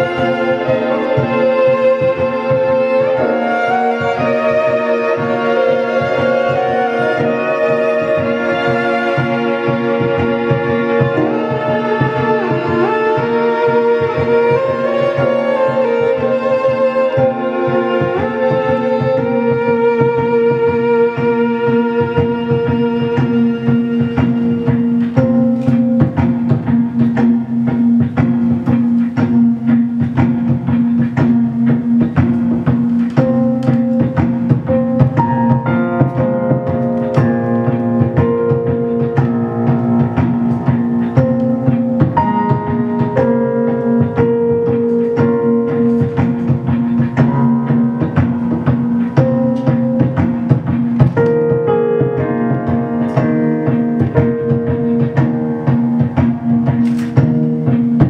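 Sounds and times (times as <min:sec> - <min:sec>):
instrumental piano music: 0:00.0 - 0:58.0
quick percussive beat: 0:00.0 - 0:58.0.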